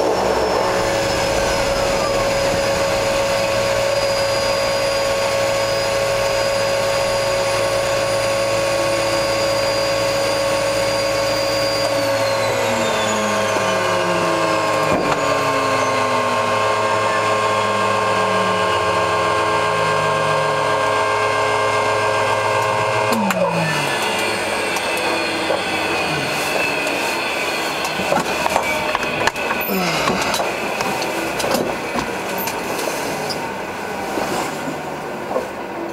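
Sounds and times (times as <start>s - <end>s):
propeller running down: 0.0s - 35.9s
turboprop engine whine: 0.0s - 35.9s.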